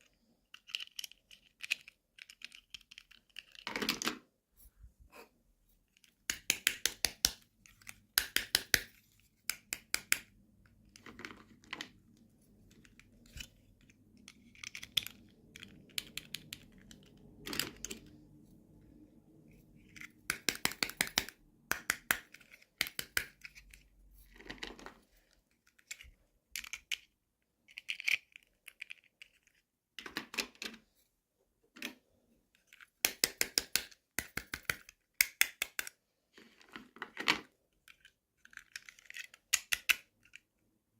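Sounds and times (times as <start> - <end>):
toy pieces clicking and tapping: 0.0 - 4.2, 5.9 - 12.0, 12.7 - 18.2, 19.8 - 25.0, 25.6 - 30.8, 32.6 - 40.6.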